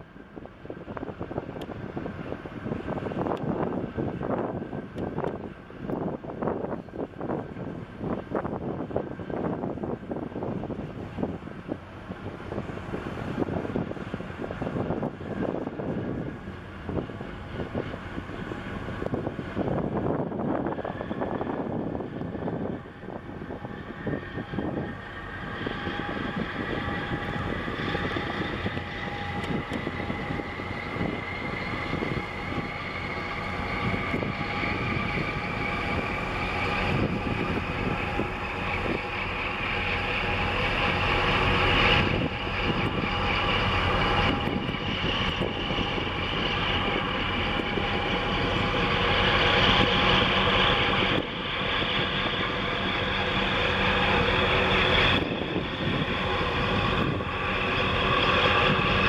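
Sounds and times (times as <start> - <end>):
ship engine droning: 0.0 - 59.0.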